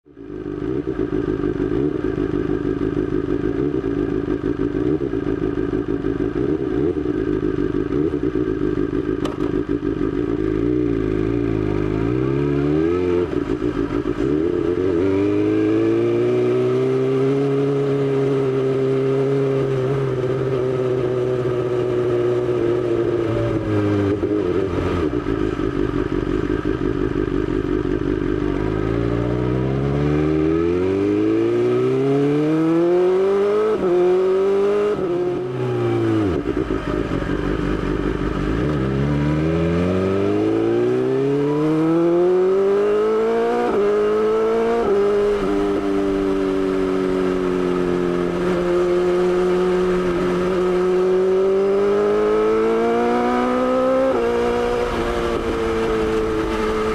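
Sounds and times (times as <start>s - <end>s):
motorcycle engine revving: 0.1s - 56.9s.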